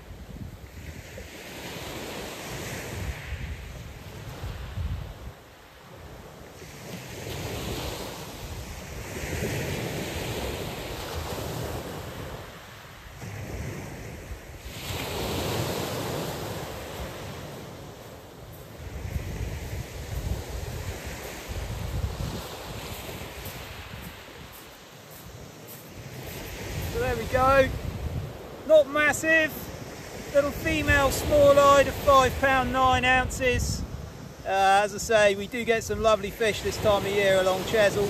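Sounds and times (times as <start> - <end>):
wind rumbling on microphone: 0.0 - 34.8
waves washing up shingle beach: 0.0 - 38.0.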